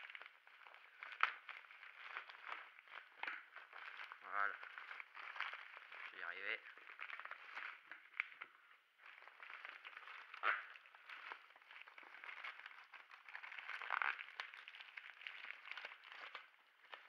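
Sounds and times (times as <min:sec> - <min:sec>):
plastic bag crinkling and tearing: 0:00.0 - 0:17.0.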